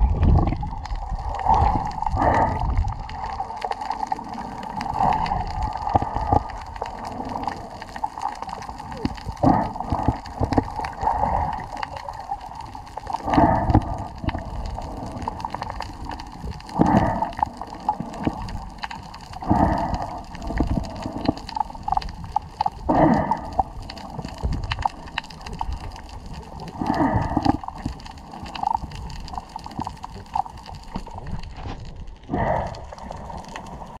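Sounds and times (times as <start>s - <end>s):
water whoosh: 0.0s - 22.1s, 22.7s - 34.0s
underwater water gurgling: 0.0s - 34.0s.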